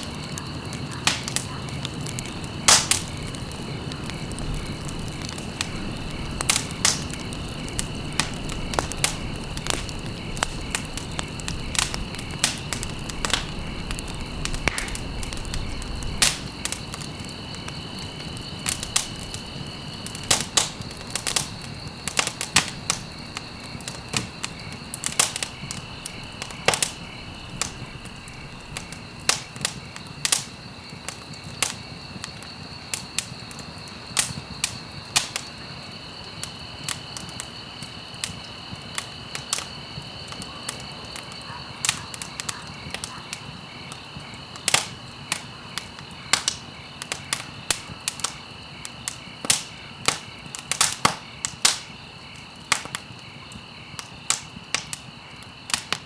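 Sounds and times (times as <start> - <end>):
low steady rush of fire: 0.0 - 56.0
wood fire crackling and popping: 0.0 - 56.0.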